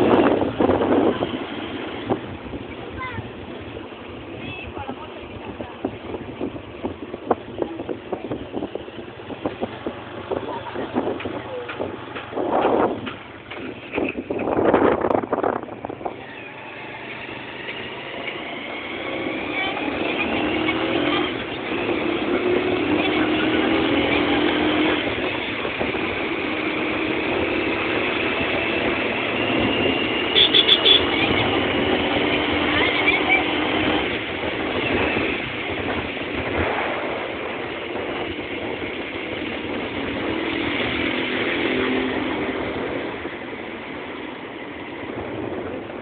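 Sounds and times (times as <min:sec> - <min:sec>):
rush of noise: 0:00.0 - 0:46.0
vehicle engine and road noise: 0:00.0 - 0:46.0.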